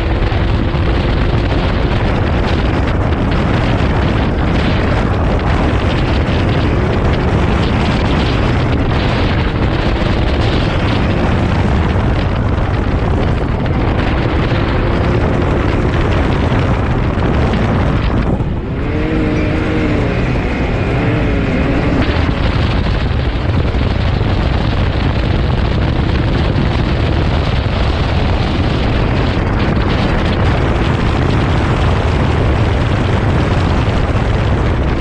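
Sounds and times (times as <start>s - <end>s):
utv engine running: 0.0s - 35.0s
wind buffeting microphone: 0.0s - 35.0s.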